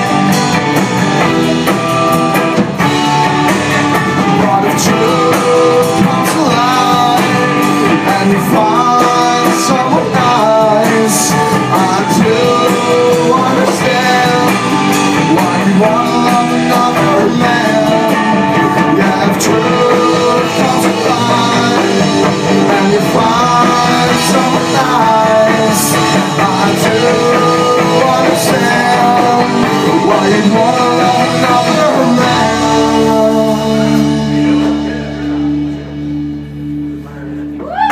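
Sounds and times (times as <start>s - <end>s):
live rock band playing: 0.0s - 37.9s
person singing: 2.8s - 36.0s.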